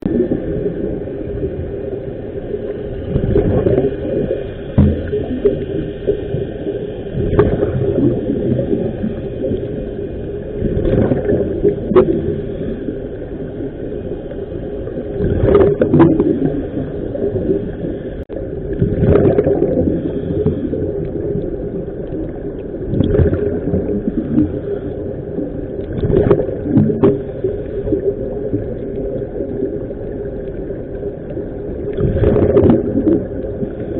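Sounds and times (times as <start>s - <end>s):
steady hum: 0.0s - 33.9s
underwater air bubbles gurgling: 0.0s - 33.9s.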